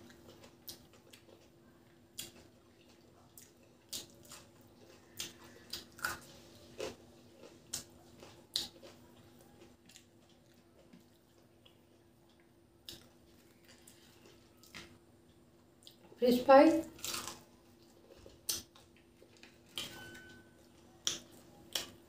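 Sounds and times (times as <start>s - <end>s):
chewing: 0.0s - 16.2s, 16.9s - 22.0s
faint low hum: 0.0s - 22.0s.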